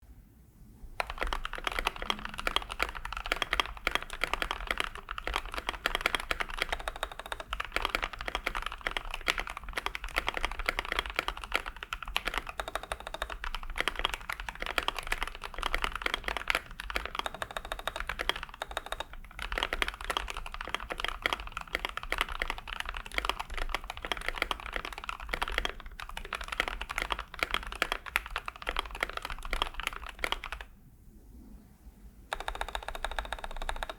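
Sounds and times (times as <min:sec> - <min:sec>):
fast mechanical keyboard typing: 0:01.0 - 0:30.7, 0:32.3 - 0:33.9.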